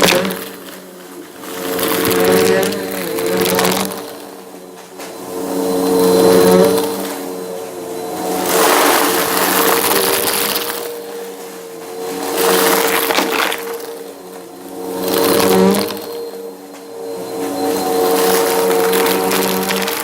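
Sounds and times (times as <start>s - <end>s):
brushroll crunching debris: 0.0s - 20.0s
vacuum cleaner motor hum: 0.0s - 20.0s.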